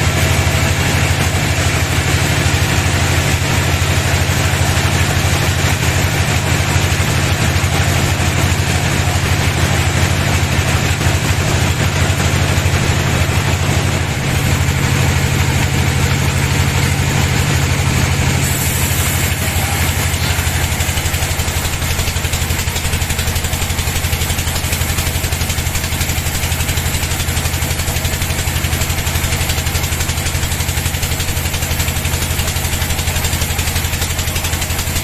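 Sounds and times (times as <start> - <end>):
band sawmill humming: 0.0 - 35.0.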